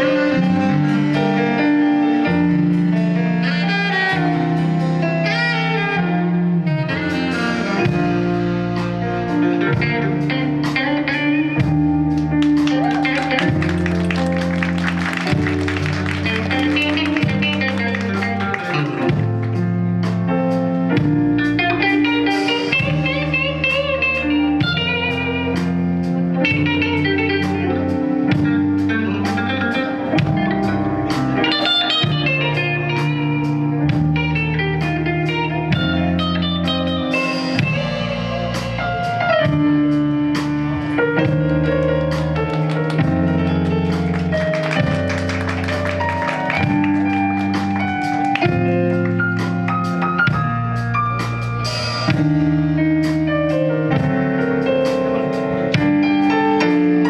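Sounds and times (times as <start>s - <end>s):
electric guitar: 0.0s - 57.0s
live band playing: 0.0s - 57.0s.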